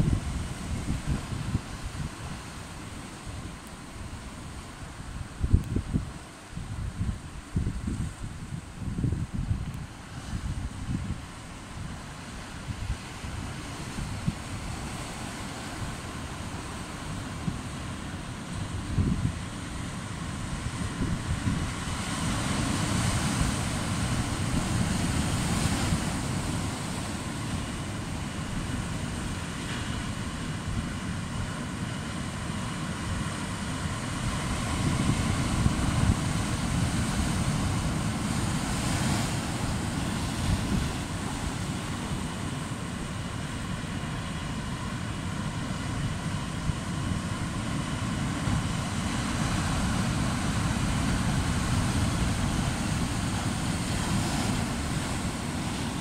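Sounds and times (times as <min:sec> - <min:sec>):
surf crashing on rocks: 0:00.0 - 0:56.0
wind buffeting microphone: 0:00.0 - 0:56.0.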